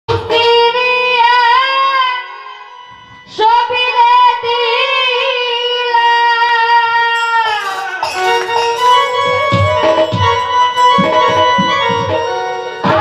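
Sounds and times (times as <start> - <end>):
woman singing into a microphone: 0.1 - 13.0.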